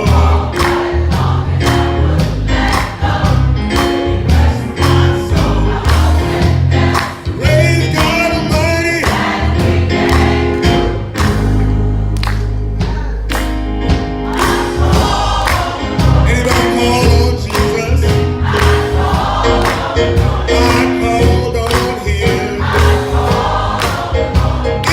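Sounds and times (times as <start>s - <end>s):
deep bass notes: 0.0s - 24.9s
gospel choir singing: 0.0s - 24.9s
percussion: 0.0s - 24.9s.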